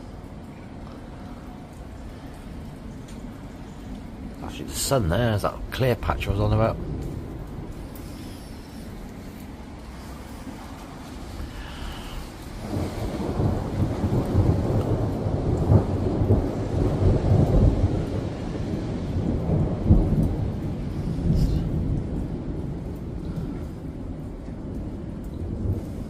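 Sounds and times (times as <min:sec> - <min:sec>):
rolling thunder rumbling: 0:00.0 - 0:26.0.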